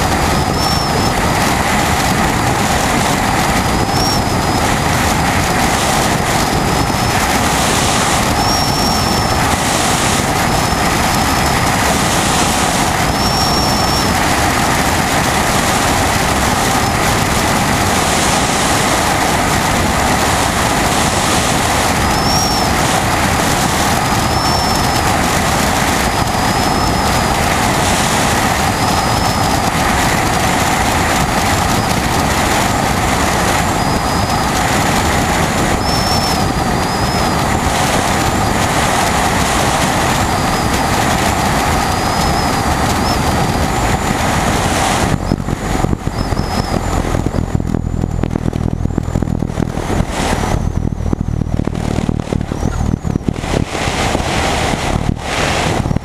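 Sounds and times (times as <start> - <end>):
plane rolling on runway rumble: 0.0 - 56.0
propeller aircraft engine: 0.0 - 56.0
rushing airflow: 0.0 - 56.0.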